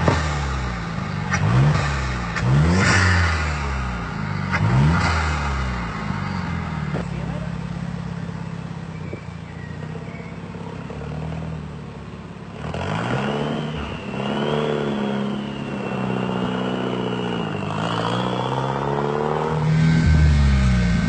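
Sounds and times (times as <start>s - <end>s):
turbocharged car engine revving: 0.0s - 8.8s, 12.4s - 21.0s.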